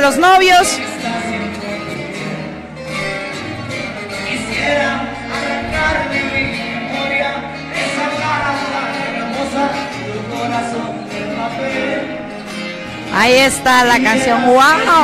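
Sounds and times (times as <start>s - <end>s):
acoustic guitars strumming: 0.0s - 15.0s
man singing: 0.6s - 15.0s.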